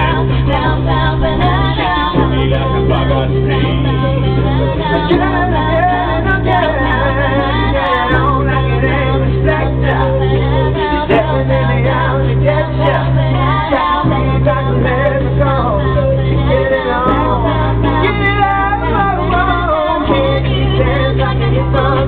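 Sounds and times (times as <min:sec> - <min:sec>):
choir singing a cappella: 0:00.0 - 0:22.0.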